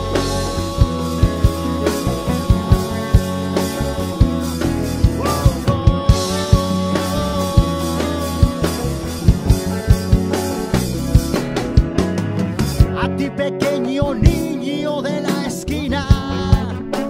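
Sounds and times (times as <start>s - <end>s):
drum kit and congas beat: 0.0s - 17.0s
latin fusion band playing: 0.0s - 17.0s.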